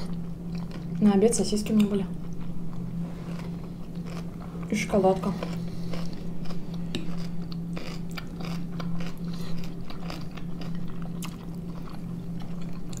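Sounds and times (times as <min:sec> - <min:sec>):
people chewing: 0:00.0 - 0:01.0, 0:01.8 - 0:13.0
steady low hum: 0:00.0 - 0:13.0.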